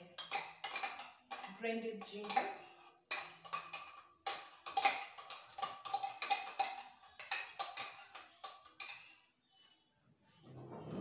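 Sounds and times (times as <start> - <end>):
metal spoon clinking on container: 0.0 - 9.2.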